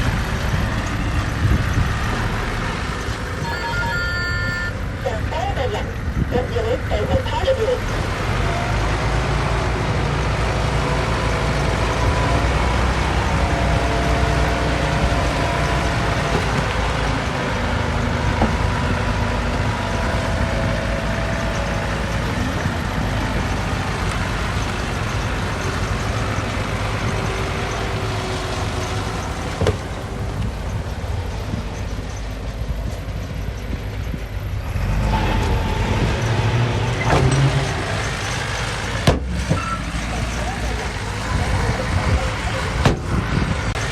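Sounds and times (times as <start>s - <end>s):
heavy machinery diesel engines rumbling: 0.0s - 43.9s.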